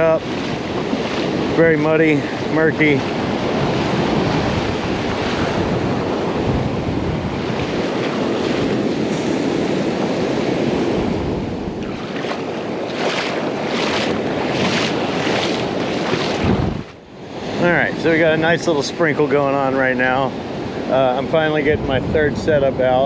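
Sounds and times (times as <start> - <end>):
surf breaking on beach: 0.0 - 22.8
wind buffeting microphone: 0.0 - 23.0.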